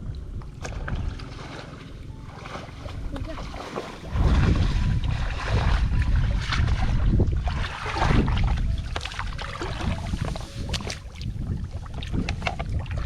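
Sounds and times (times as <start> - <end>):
water sloshing and splashing: 0.0 - 13.0
wind rumbling on microphone: 0.0 - 13.0.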